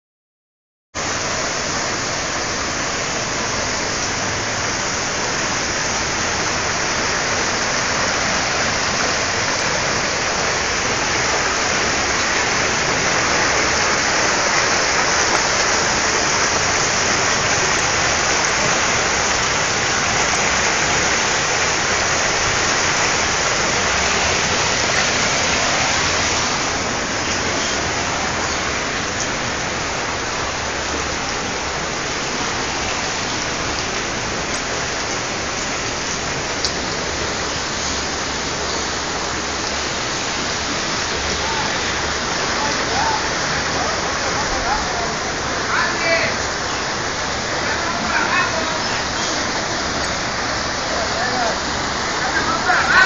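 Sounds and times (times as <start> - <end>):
floodwater rushing: 1.0 - 53.0
heavy rain: 1.0 - 53.0.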